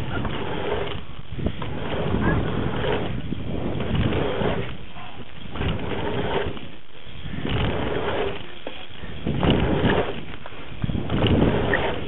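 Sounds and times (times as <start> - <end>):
bike tyres rolling on dirt: 0.0 - 12.0
wind rushing over microphone: 0.0 - 12.0.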